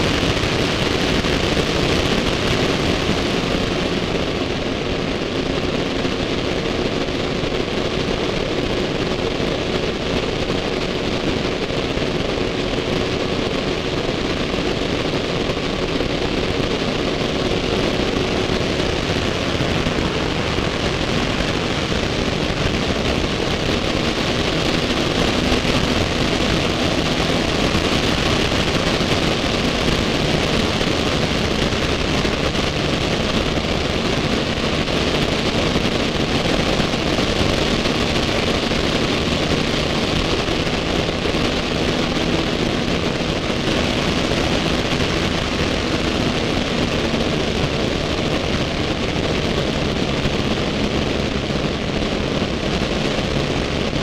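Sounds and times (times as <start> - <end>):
rush of airflow: 0.0 - 54.0.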